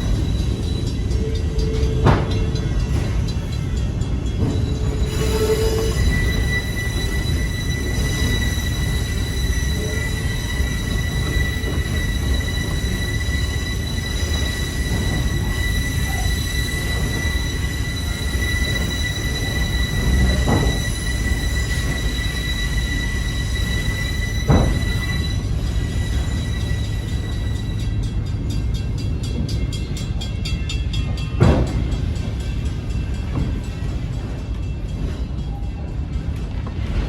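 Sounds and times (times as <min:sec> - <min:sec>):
high-pitched squeal of train wheels: 0:00.0 - 0:37.0
train rolling rumble: 0:00.0 - 0:37.0.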